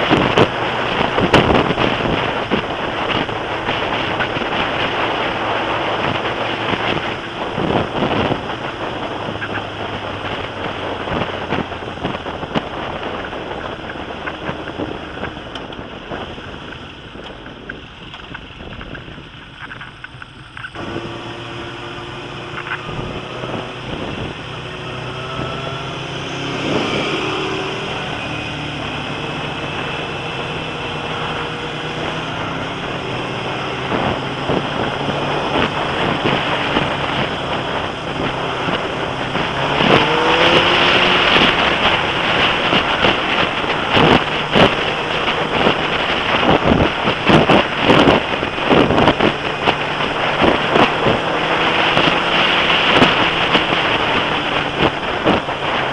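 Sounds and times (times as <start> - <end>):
motorcycle engine accelerating: 0.0 - 55.9
wind buffeting microphone: 0.0 - 55.9.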